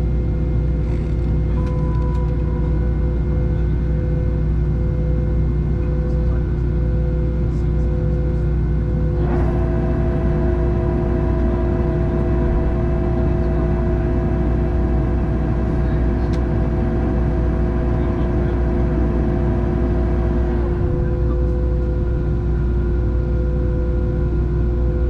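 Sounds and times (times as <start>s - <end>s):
airliner cabin drone: 0.0s - 25.0s
whining engine tones: 0.0s - 25.0s.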